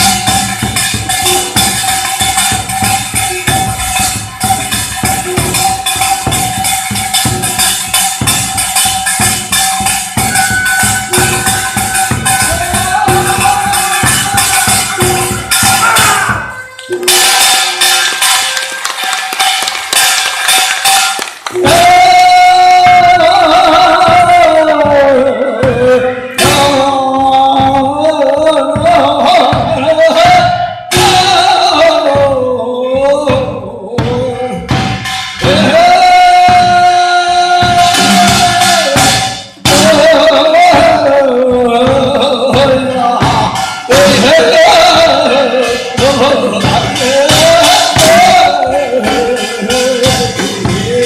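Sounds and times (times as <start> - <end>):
jingling small percussion: 0.0 - 27.8, 34.0 - 41.2, 41.8 - 51.0
steady drum strokes: 0.0 - 51.0.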